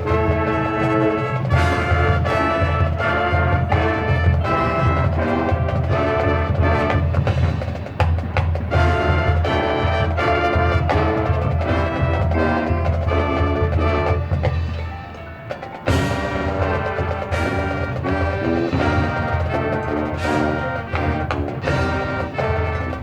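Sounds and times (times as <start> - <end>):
brass chords: 0.0 - 23.0
marching band playing: 0.0 - 23.0
percussion: 0.0 - 23.0.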